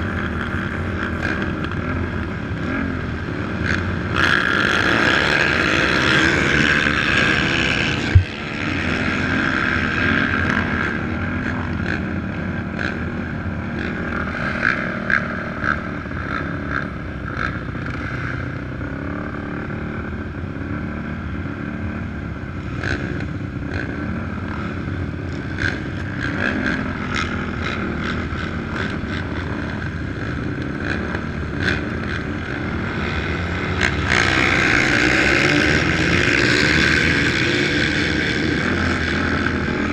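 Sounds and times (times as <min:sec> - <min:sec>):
quad engines idling: 0:00.0 - 0:39.9.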